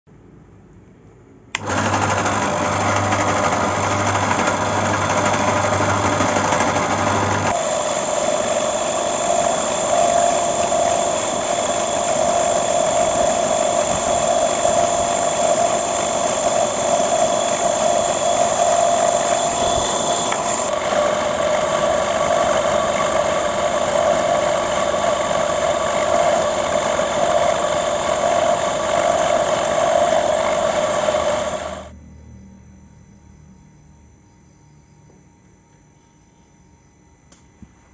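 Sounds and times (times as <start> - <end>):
electric motor whirring: 1.6 - 31.9.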